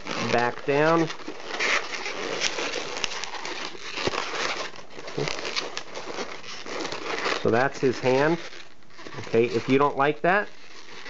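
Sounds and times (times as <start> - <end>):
balloon rustling and ticking: 0.0 - 11.0.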